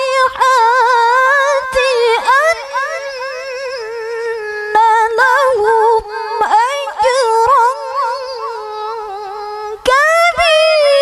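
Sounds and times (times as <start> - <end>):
woman reciting melodically: 0.0 - 11.0.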